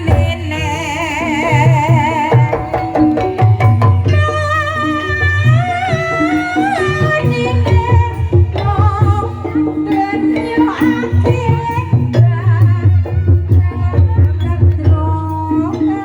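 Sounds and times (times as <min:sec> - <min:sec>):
gamelan notes: 0:00.0 - 0:16.0
hand drums beating: 0:00.0 - 0:16.0
high wavering melody: 0:00.0 - 0:16.0.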